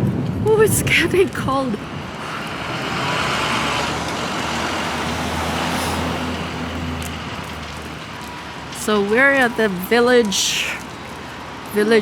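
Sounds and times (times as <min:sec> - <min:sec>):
road noise: 0:00.0 - 0:12.0
vehicle engine humming: 0:01.2 - 0:11.8.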